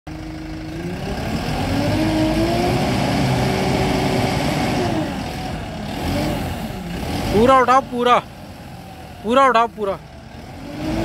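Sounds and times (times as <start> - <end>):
diesel engine revving: 0.1 - 11.0.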